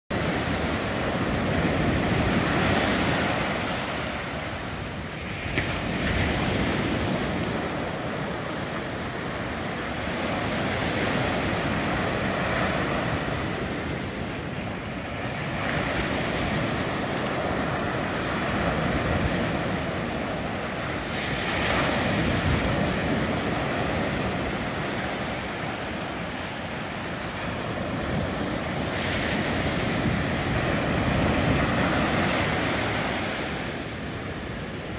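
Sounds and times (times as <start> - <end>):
ocean surf breaking: 0.1 - 34.9.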